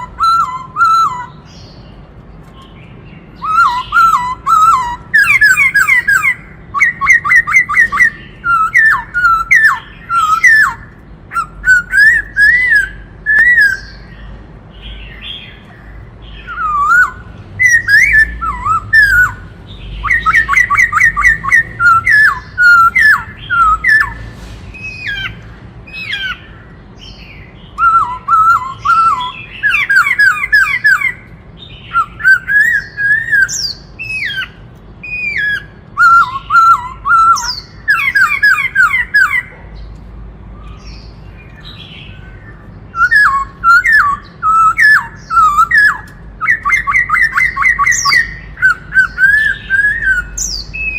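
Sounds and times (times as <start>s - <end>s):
bird singing whistled phrases: 0.0s - 1.9s, 3.2s - 24.2s, 24.8s - 39.5s, 40.6s - 50.9s.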